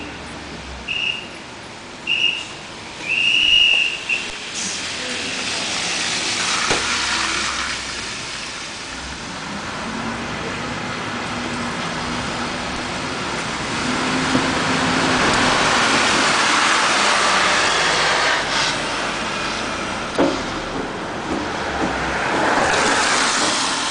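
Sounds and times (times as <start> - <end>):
tyres hissing on wet road: 2.1 - 23.9
bus engine running: 4.3 - 23.9.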